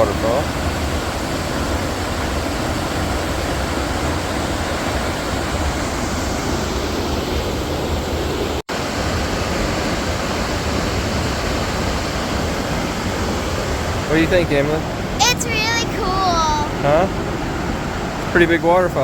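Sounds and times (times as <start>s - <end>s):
waterfall rushing: 0.0s - 7.2s, 8.4s - 18.2s.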